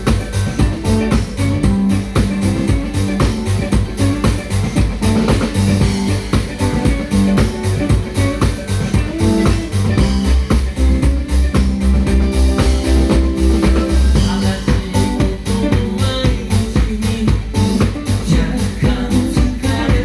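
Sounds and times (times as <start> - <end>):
drum kit beat: 0.0 - 20.0
guitar: 0.0 - 20.0
held bass notes: 0.0 - 20.0.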